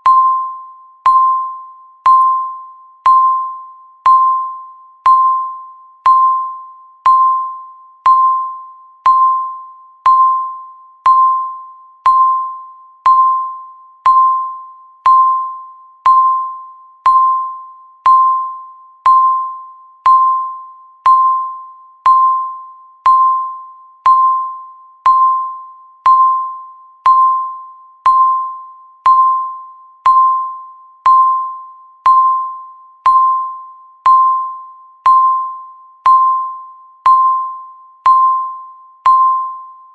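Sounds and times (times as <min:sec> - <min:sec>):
countdown timer beeping: 0:00.0 - 0:39.8.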